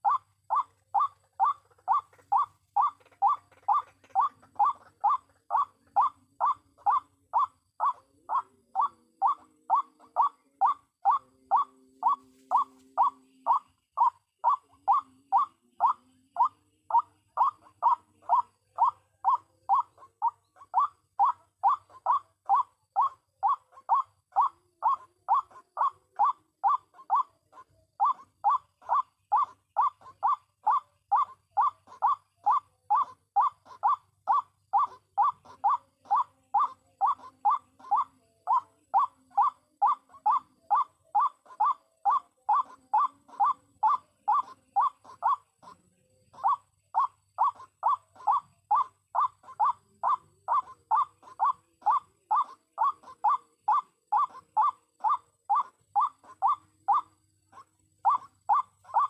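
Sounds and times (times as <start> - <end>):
waterhen croaking call: 0.0 - 59.0.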